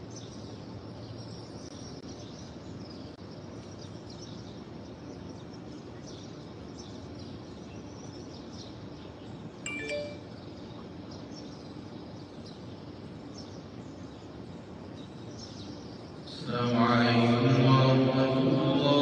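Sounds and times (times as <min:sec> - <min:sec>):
small birds chirping: 0:00.0 - 0:16.5
steady background hum: 0:00.0 - 0:19.0.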